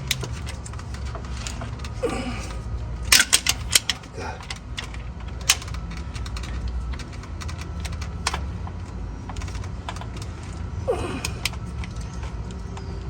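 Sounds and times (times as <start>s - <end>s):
light clicks and taps on engine: 0.0s - 13.0s
steady low hum: 0.0s - 13.0s.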